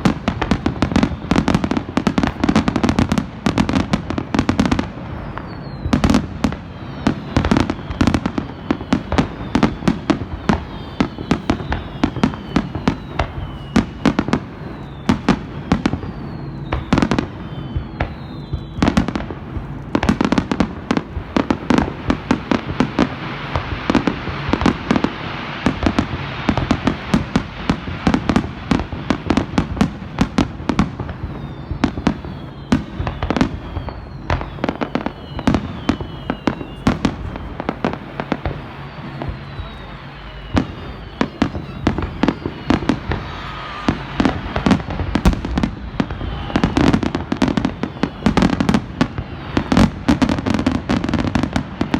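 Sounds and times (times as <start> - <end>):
falling firework whistles: 0.0 - 51.9
fireworks bursting: 0.0 - 51.9
fireworks crackling: 0.0 - 51.9.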